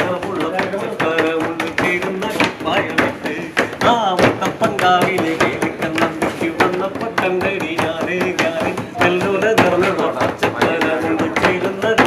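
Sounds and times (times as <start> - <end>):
rapid sharp percussion strokes: 0.0 - 12.0.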